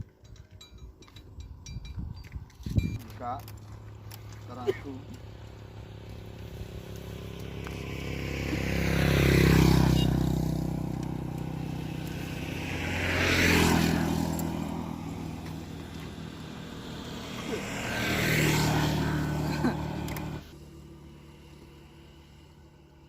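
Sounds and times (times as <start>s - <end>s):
motor vehicles passing by: 0.0s - 23.0s.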